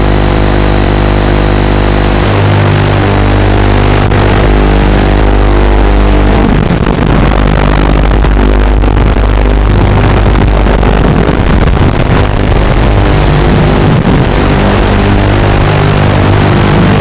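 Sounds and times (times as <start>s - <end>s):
quadcopter motors humming: 0.0s - 8.0s, 9.2s - 17.0s.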